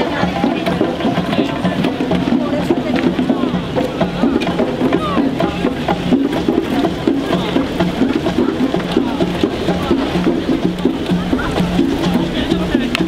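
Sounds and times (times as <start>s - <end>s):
faint voices: 0.0s - 13.0s
music with drum beat: 0.0s - 13.0s.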